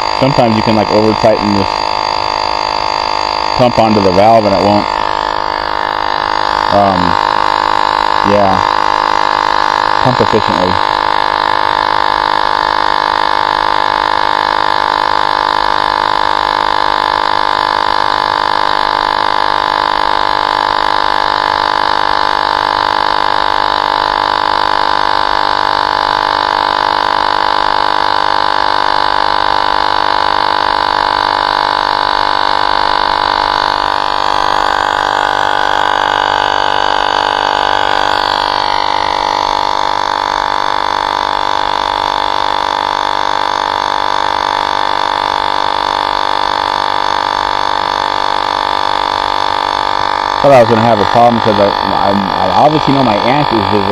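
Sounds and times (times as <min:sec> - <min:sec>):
electric tyre inflator whining: 0:00.0 - 0:53.9.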